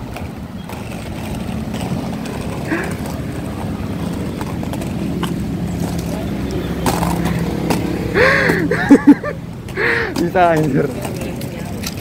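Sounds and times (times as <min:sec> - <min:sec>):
roller skate wheels on pavement: 0:00.0 - 0:12.0.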